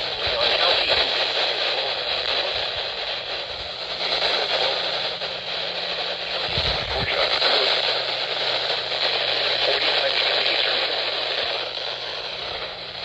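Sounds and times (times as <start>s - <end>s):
low hum: 0.0s - 13.0s
radio static hiss: 0.0s - 13.0s.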